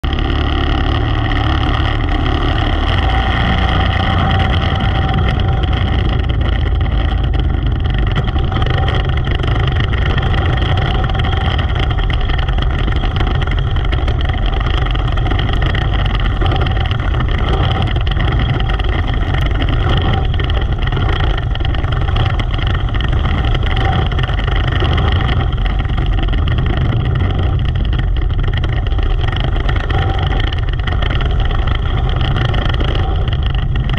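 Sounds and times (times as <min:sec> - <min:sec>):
race car engine running hard: 0:00.0 - 0:33.9.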